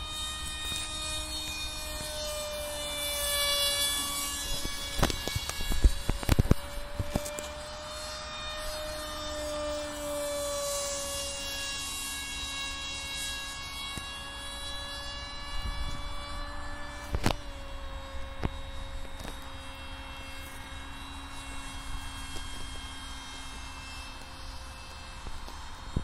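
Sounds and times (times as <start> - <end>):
model jet motor buzzing whine: 0.0 - 26.0.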